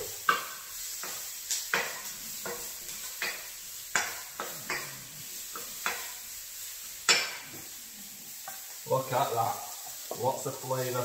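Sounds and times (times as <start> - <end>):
vegetables sizzling in a wok: 0.0 - 11.0
wooden spoon scraping a pan: 0.0 - 11.0.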